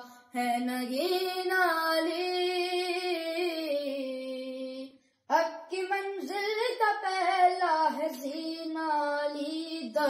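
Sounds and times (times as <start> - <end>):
boy singing: 0.0 - 10.0.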